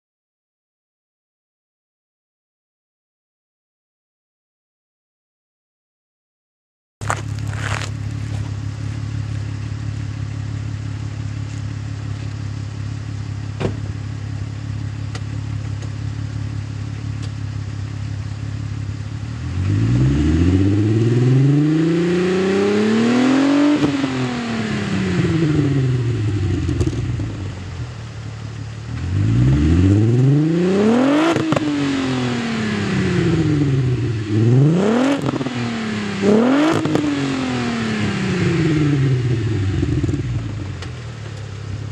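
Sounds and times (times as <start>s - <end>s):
car engine idling and revving: 7.0s - 41.9s.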